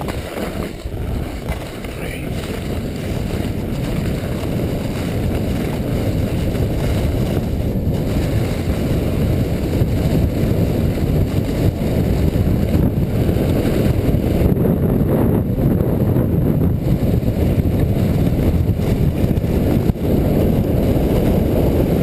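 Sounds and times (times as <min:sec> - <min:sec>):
sled gliding over snow: 0:00.0 - 0:22.0
wind noise: 0:00.0 - 0:22.0.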